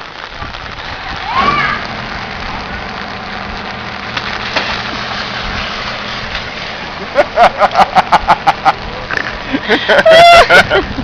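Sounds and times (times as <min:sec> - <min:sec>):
rain pouring on ground: 0:00.0 - 0:11.0.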